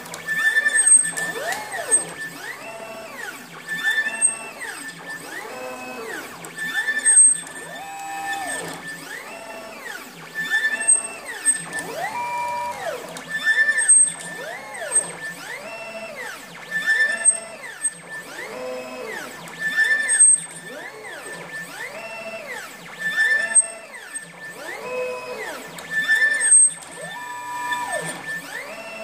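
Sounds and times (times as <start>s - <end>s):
stepper motors whining: 0.0s - 29.0s.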